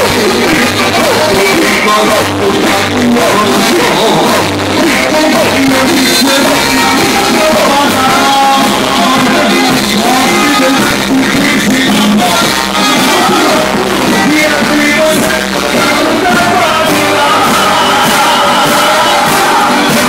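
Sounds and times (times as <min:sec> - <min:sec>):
live band music over loudspeakers: 0:00.0 - 0:20.0.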